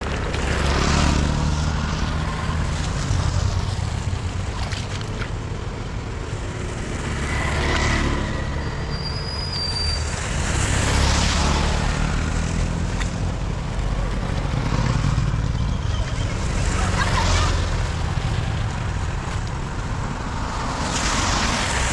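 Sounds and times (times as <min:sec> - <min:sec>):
engines rumbling: 0:00.0 - 0:21.9.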